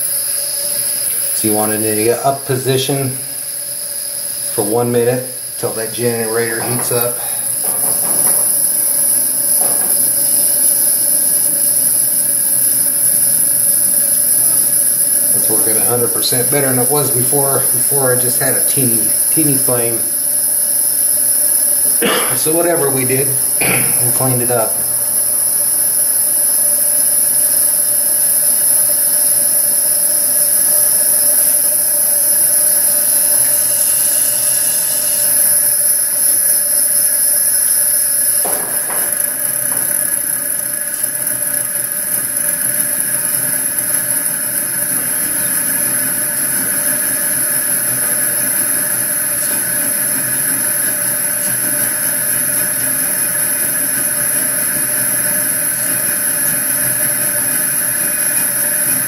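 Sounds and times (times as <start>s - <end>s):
stove burner hissing: 0.0s - 59.0s.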